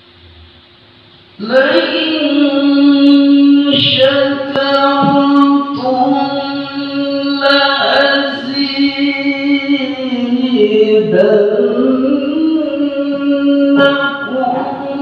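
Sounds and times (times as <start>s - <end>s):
man chanting into a microphone: 1.4s - 15.0s.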